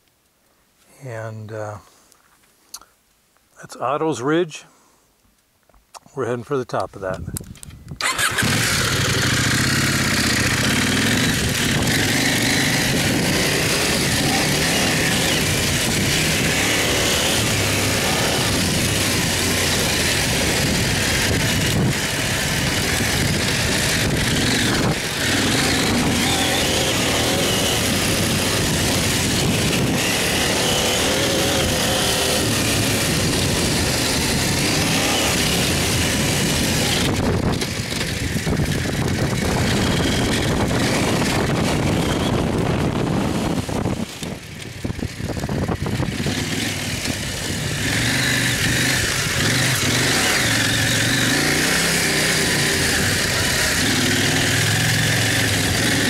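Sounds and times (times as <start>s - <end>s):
rush of wind noise: 7.1s - 56.0s
motorcycle engine running: 8.0s - 56.0s.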